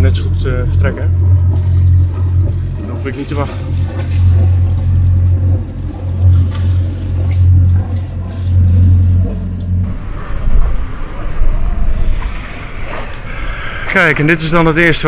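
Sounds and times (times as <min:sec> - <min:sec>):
boat engine humming: 0:00.0 - 0:15.0
water splashing along hull: 0:00.0 - 0:15.0
wind: 0:00.0 - 0:15.0.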